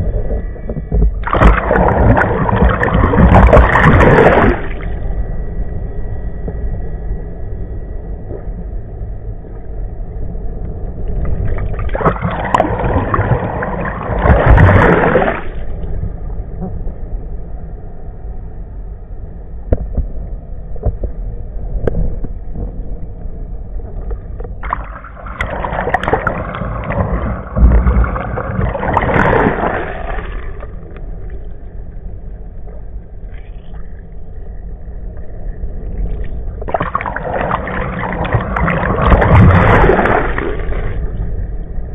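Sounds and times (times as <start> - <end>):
muffled underwater water rushing: 0.0 - 41.9.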